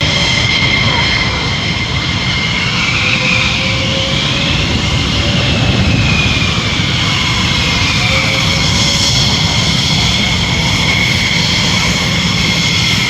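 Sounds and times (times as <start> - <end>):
jet engine roar with whine: 0.0 - 13.0.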